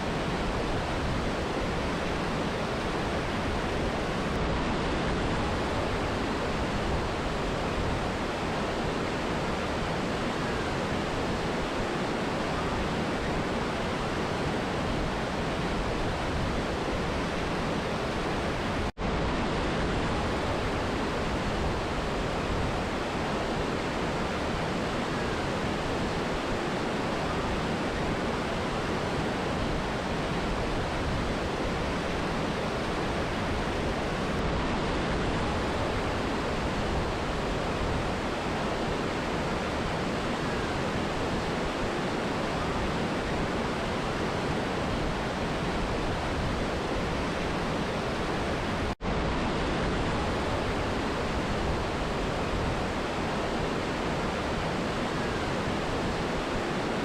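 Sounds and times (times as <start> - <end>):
rushing river and waterfall: 0.0 - 57.0.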